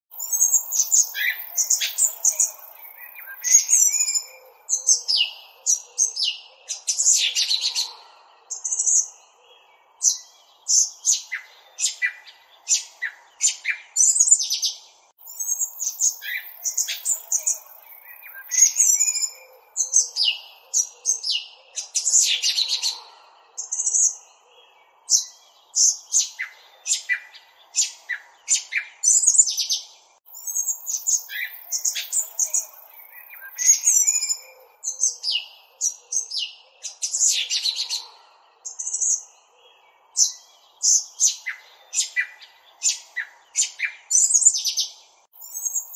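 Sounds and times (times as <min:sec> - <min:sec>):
small birds twittering: 0:00.1 - 0:45.9.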